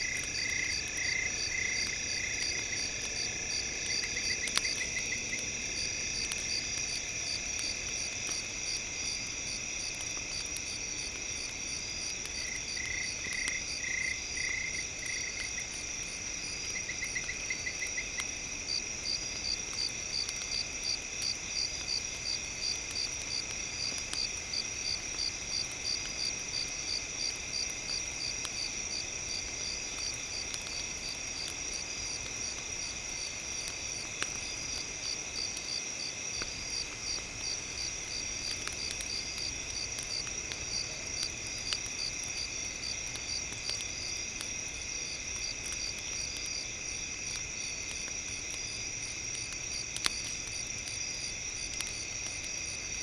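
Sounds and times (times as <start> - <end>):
campfire crackles: 0.0 - 53.0
night insects chirping: 0.0 - 53.0.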